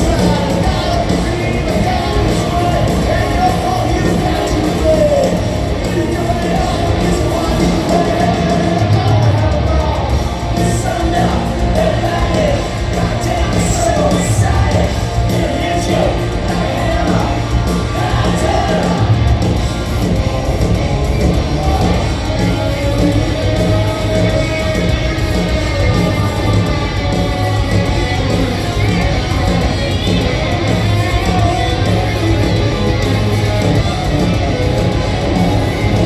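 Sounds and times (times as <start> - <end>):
lead vocals singing: 0.0 - 36.0
live rock band: 0.0 - 36.0.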